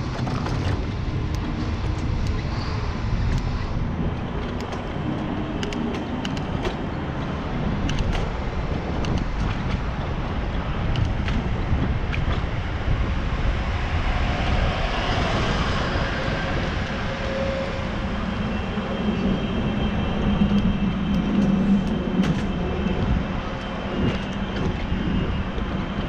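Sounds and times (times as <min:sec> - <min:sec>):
road and traffic noise: 0:00.0 - 0:26.0
vehicle engine hum: 0:00.0 - 0:26.0
wind buffeting microphone: 0:00.0 - 0:26.0.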